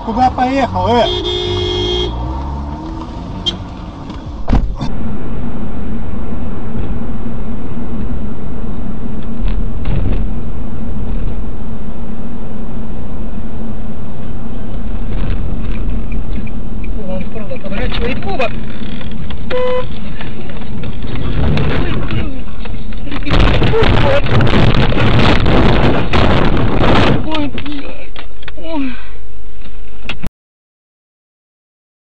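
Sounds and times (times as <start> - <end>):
car road and engine drone: 0.0 - 30.3
city traffic: 0.0 - 30.3.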